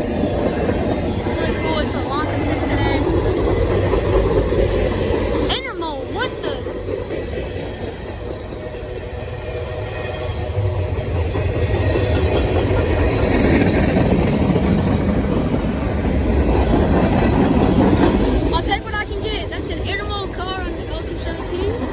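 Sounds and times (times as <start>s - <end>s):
train wheels clattering over rails: 0.0s - 21.9s.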